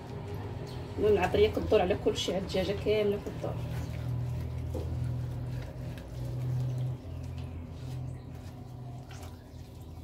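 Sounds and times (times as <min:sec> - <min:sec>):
hands squishing wet marinade: 0:00.0 - 0:10.0.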